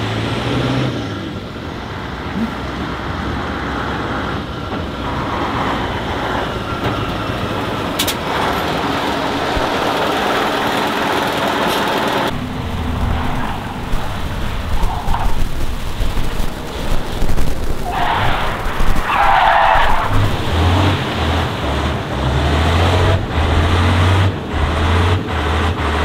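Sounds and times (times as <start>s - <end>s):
dense rushing noise: 0.0s - 26.0s
truck engine running: 1.2s - 26.0s.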